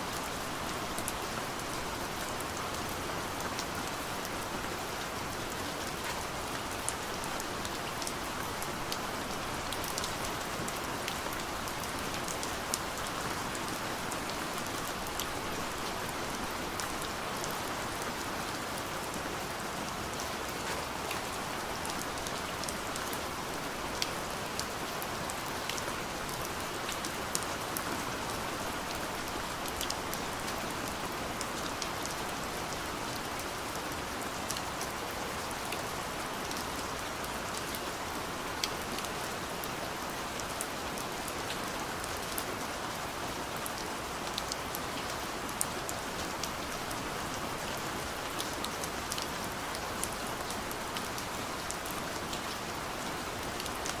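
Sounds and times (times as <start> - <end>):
rain hissing on a window: 0.0 - 54.0.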